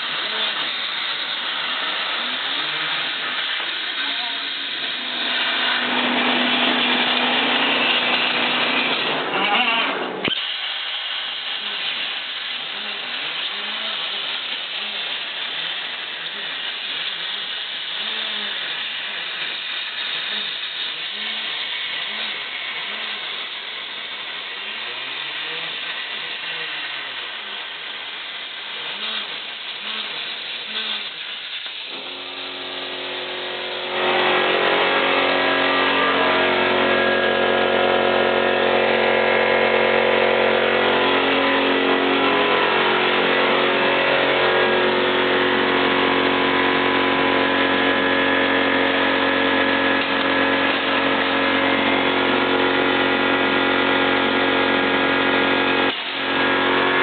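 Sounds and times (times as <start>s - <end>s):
machine hum: 0.0s - 57.0s
plasma arc hissing and buzzing: 0.0s - 57.0s.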